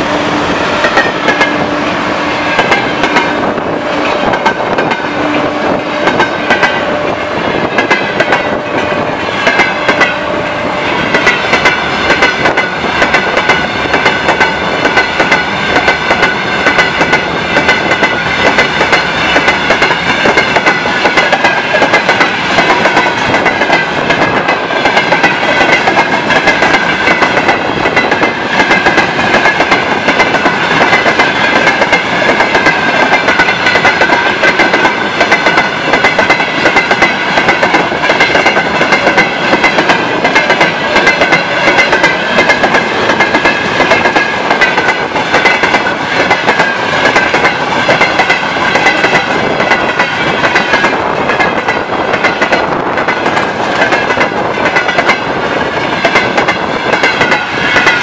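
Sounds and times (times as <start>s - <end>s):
train wheels rushing on rail: 0.0s - 58.0s
wheels clacking over rail joints: 0.8s - 58.0s.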